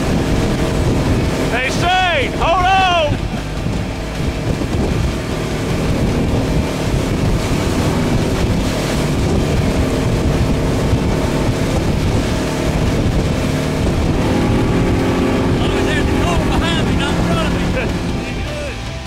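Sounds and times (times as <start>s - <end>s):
motorboat engine drone: 0.0s - 19.0s
water rushing: 0.0s - 19.0s
wind buffeting microphone: 0.0s - 19.0s.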